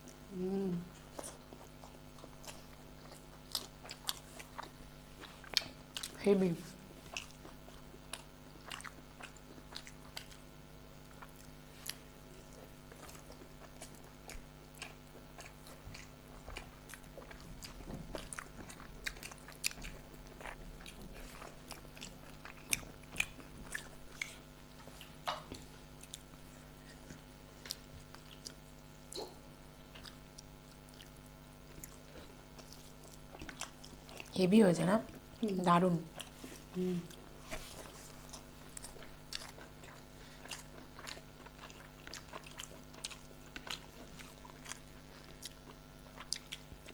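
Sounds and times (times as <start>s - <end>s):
chewing and mouth sounds: 0.0s - 34.4s, 35.1s - 46.9s.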